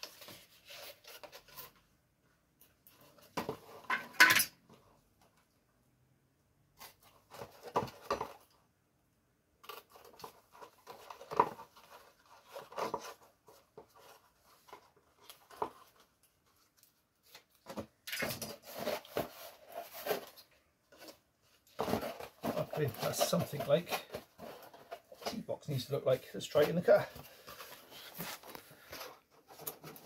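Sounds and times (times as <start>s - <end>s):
cardboard creasing and rustling: 0.0s - 2.0s, 6.8s - 8.6s, 9.6s - 30.0s.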